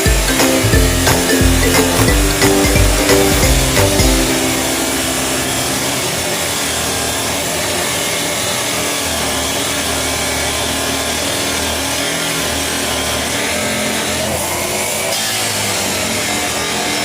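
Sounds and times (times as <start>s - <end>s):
cut-off disc grinding steel: 0.0s - 17.0s.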